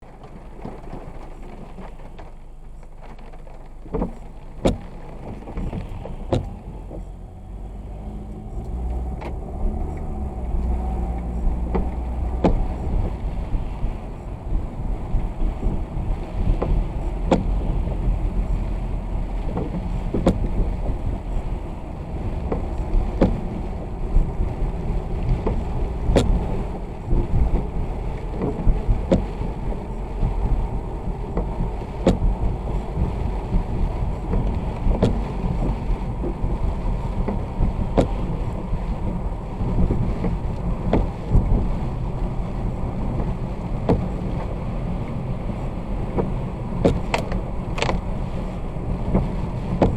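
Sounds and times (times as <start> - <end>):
car driving on wet road: 0.0 - 49.9
rain: 0.0 - 49.9.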